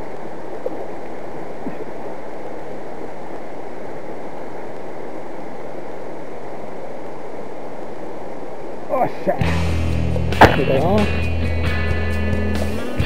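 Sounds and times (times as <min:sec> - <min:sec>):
river running over rocks: 0:00.0 - 0:11.0.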